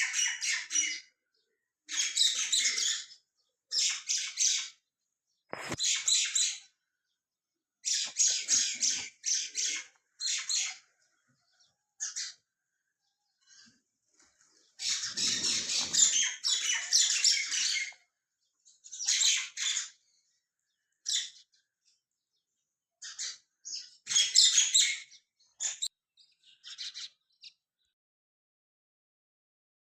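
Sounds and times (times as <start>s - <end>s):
small birds chirping and twittering: 0.0s - 28.0s.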